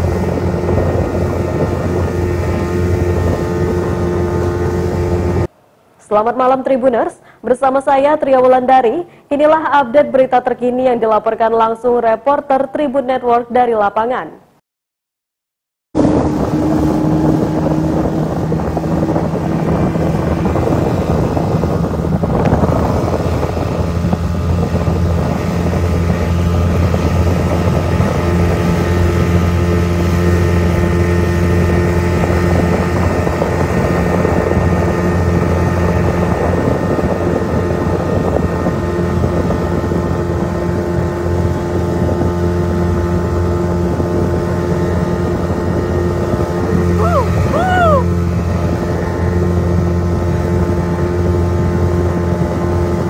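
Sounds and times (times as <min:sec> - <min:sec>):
speedboat motor droning: 0:00.0 - 0:05.5, 0:16.0 - 0:53.0
wind buffeting microphone: 0:00.0 - 0:05.5, 0:16.0 - 0:53.0.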